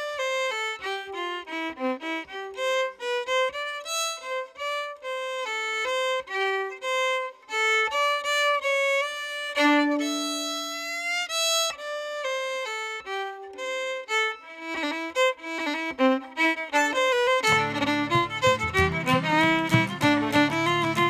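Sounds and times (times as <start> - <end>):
fiddle dance tune: 0.0 - 21.0.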